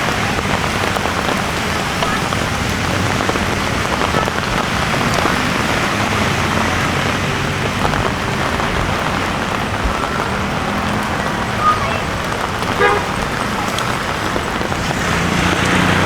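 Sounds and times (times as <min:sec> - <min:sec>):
heavy rain on pavement: 0:00.0 - 0:16.0
passing road traffic rumble: 0:00.0 - 0:16.0.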